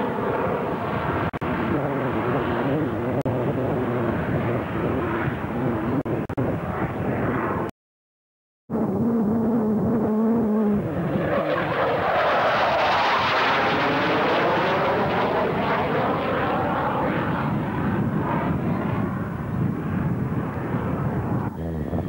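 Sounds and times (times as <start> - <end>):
jet aircraft roaring past: 0.0 - 7.7, 8.7 - 22.0.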